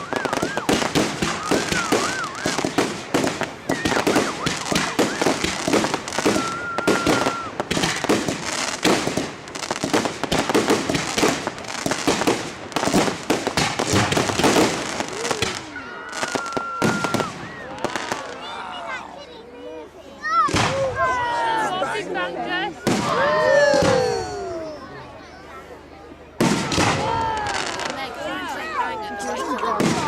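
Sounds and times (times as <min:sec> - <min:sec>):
fireworks bangs and crackles: 0:00.0 - 0:18.6, 0:20.4 - 0:21.3, 0:22.8 - 0:24.4, 0:26.4 - 0:30.0.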